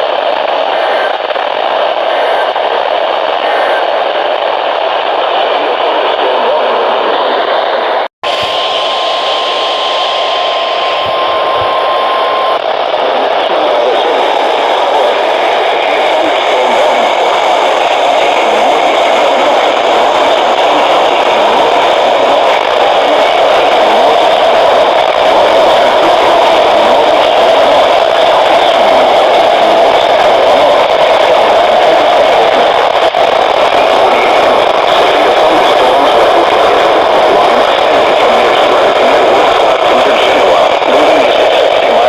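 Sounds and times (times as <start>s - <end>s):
radio static hiss: 0.0s - 42.0s.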